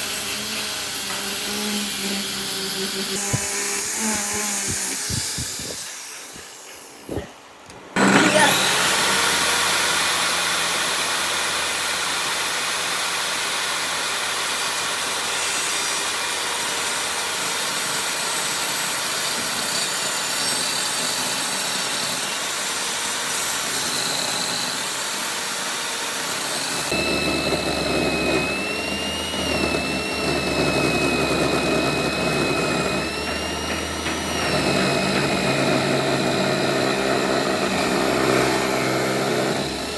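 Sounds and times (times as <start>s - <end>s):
power tool whining: 0.0s - 7.3s, 8.0s - 39.9s.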